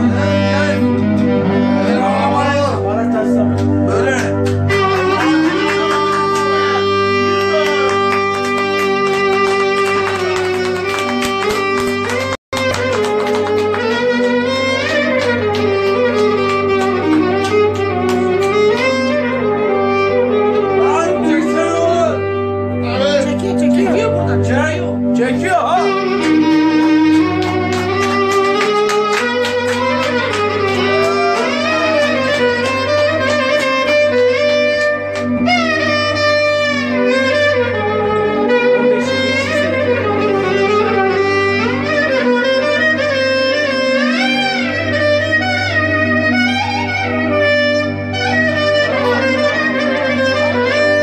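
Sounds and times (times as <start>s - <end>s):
clarinet improvisation: 0.0s - 51.0s
steady low drone: 0.0s - 51.0s.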